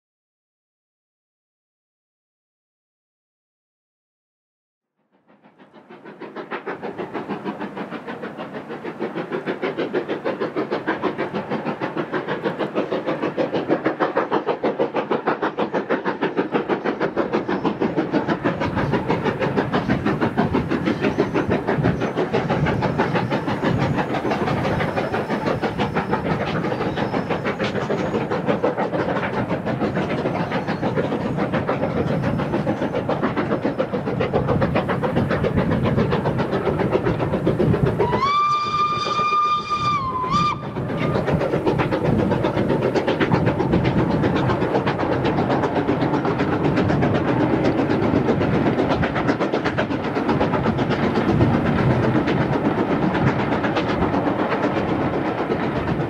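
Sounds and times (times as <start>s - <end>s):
steam locomotive chuffing: 5.1s - 56.0s.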